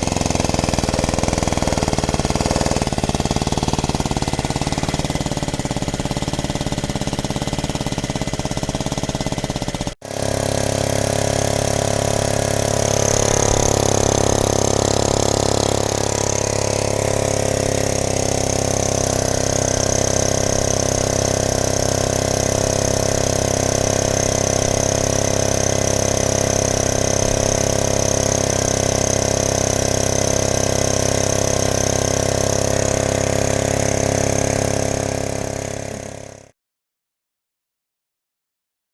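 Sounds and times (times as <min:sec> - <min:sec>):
generator engine running: 0:00.0 - 0:36.5.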